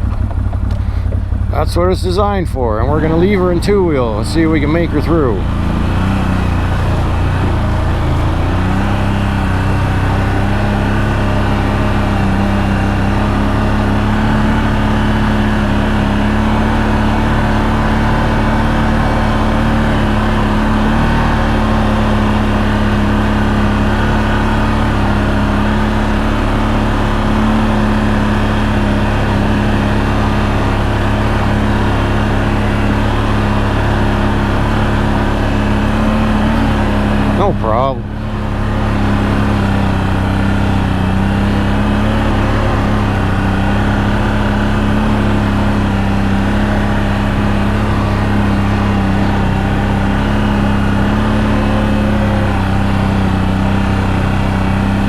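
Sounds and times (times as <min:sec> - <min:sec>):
atv engine running under load: 0:00.0 - 0:55.0.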